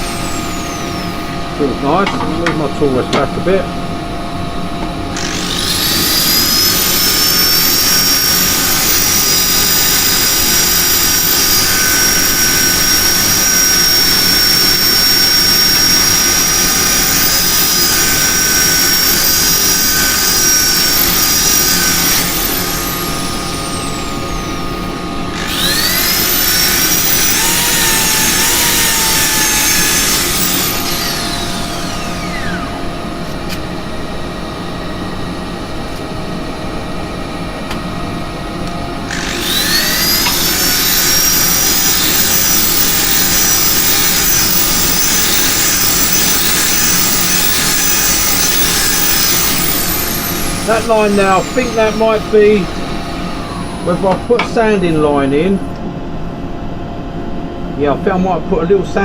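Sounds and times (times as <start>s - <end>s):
power tool motor whining: 0.0s - 2.7s, 4.9s - 33.7s, 39.0s - 55.7s.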